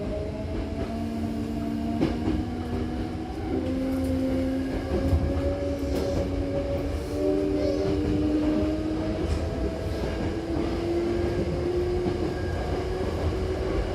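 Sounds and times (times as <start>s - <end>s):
train wheels rumbling on rail: 0.0s - 13.9s.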